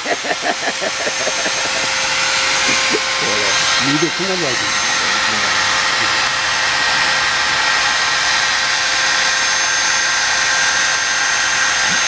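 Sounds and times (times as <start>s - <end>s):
higher whine: 0.0s - 10.0s
power tool running: 0.0s - 12.0s.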